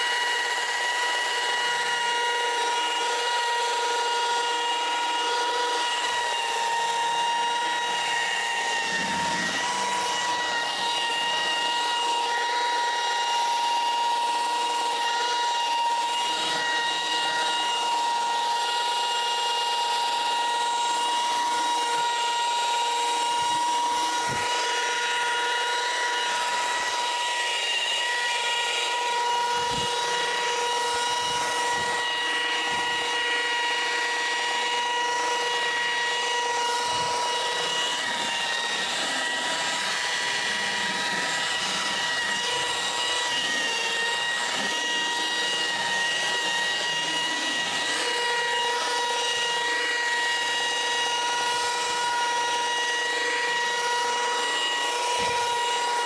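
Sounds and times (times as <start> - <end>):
electric polisher whining: 0.0 - 56.0.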